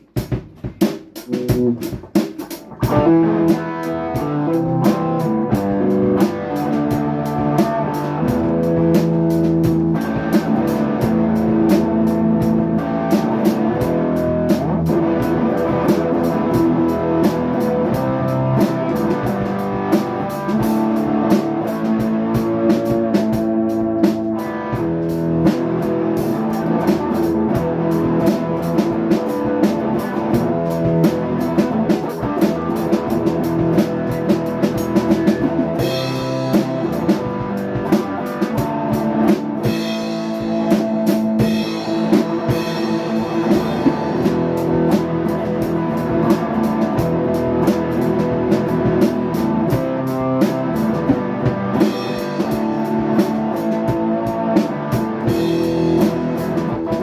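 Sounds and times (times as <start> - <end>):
drum kit beat: 0.0 - 57.0
rock guitar: 0.0 - 57.0.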